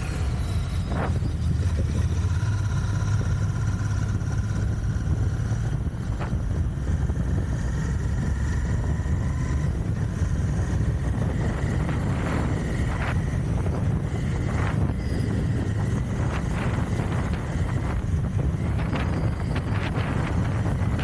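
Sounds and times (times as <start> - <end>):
motorcycle engine droning: 0.0 - 21.0.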